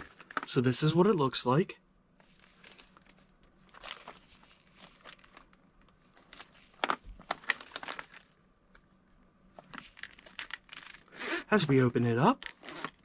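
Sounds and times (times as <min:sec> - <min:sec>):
rustling and crinkling handling: 0:00.0 - 0:01.0, 0:02.2 - 0:13.0.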